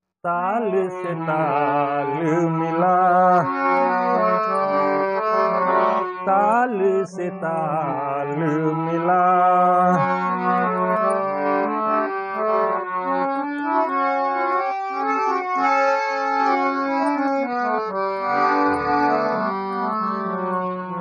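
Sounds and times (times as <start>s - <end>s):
harmonium melody: 0.3s - 21.0s.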